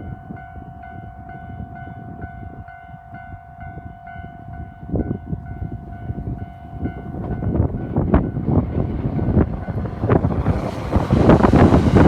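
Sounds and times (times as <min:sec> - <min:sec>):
passing train rumble: 0:00.0 - 0:12.0.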